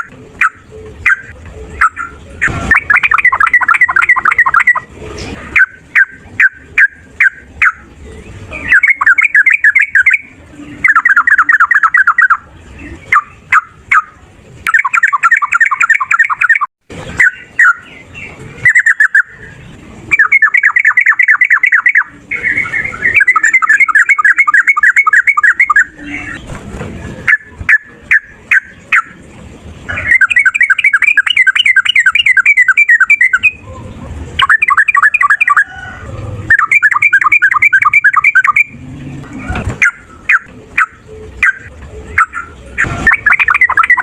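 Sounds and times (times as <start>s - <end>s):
bulbul bubbling chatter: 0.0s - 26.4s, 27.2s - 38.8s, 39.8s - 44.0s.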